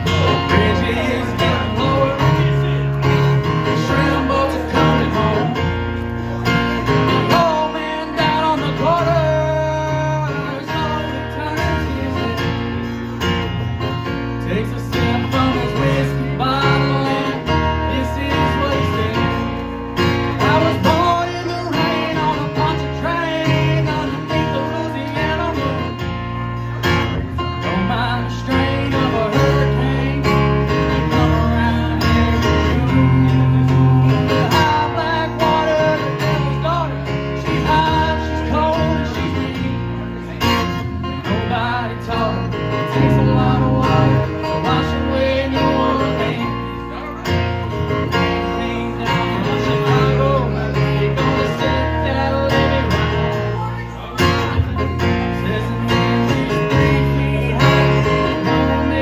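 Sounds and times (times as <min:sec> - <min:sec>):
bass line: 0:00.0 - 0:59.0
strummed acoustic guitar: 0:00.0 - 0:59.0.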